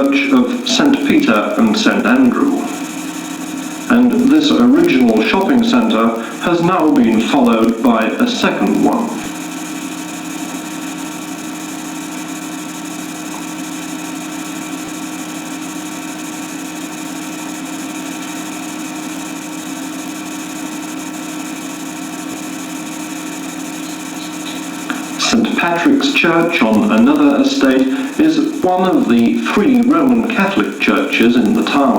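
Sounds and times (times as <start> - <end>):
steady electrical hum: 0.0 - 31.9.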